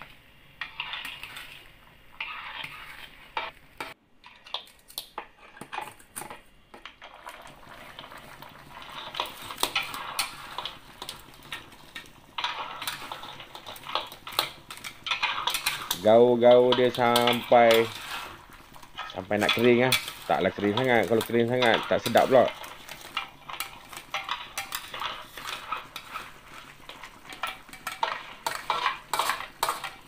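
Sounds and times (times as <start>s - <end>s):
metal spatula scraping a wok: 0.0s - 4.6s, 5.2s - 5.9s, 7.0s - 30.0s.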